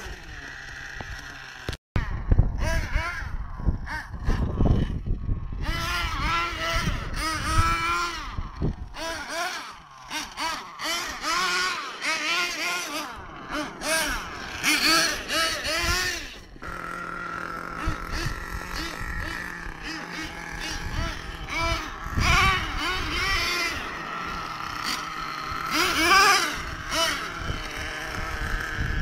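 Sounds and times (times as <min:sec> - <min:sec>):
small engines revving: 0:00.0 - 0:29.0.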